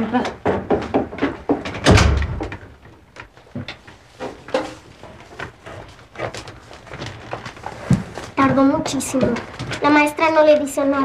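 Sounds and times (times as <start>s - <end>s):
knocks and rustles at wooden desks: 0.0s - 10.6s
footsteps on classroom floor: 0.4s - 10.9s.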